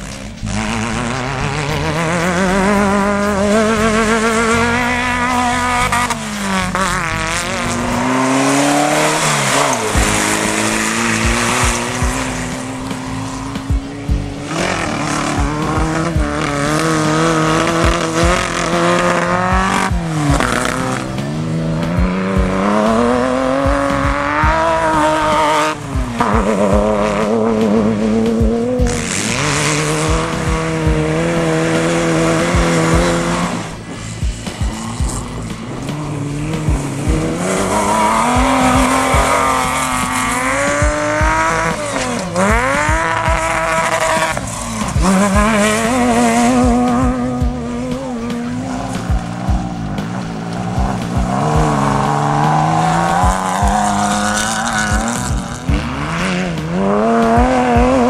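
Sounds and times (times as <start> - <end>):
race buggy engines revving: 0.0 - 58.0.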